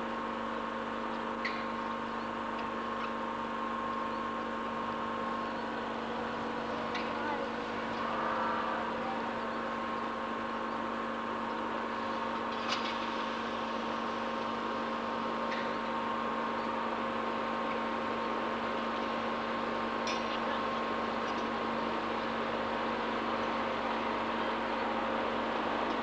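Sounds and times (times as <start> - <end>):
locomotive engine droning: 0.0 - 26.0.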